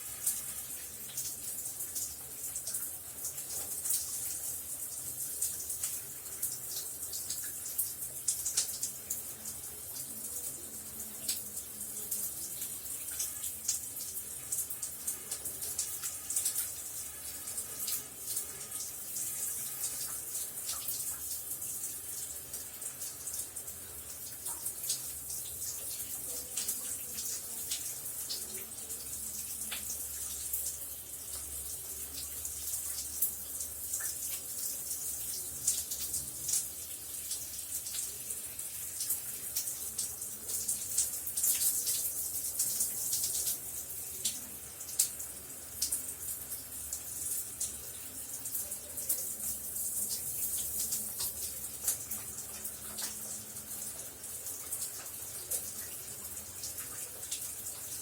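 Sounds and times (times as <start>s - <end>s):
small splashes and drips: 0.0s - 58.0s.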